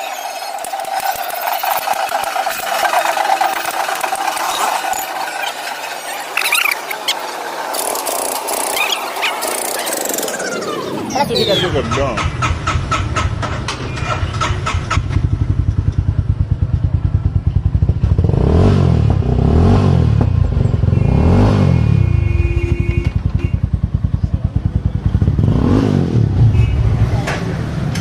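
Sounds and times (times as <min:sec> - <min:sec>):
motorcycle engine revving: 0:00.6 - 0:28.0.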